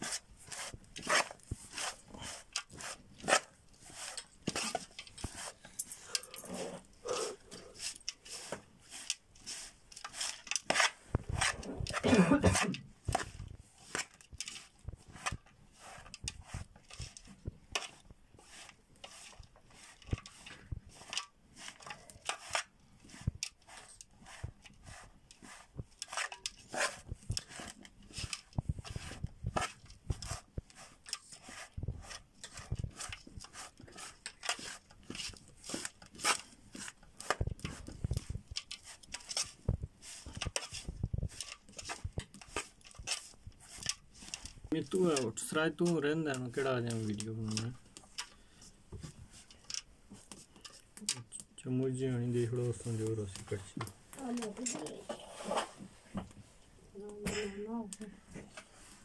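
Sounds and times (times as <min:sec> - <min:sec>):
dry mix rustling: 0:00.0 - 0:51.0.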